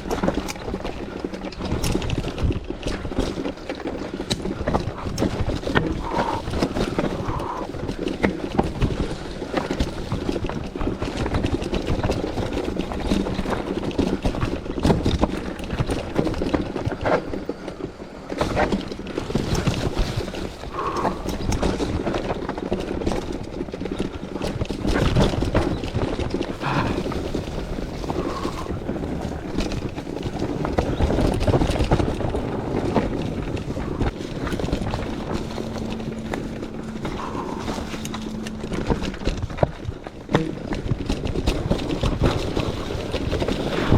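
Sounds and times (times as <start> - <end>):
bike clattering over bumps: 0.0 - 43.9
bike tyres on dirt and rock: 0.0 - 43.9.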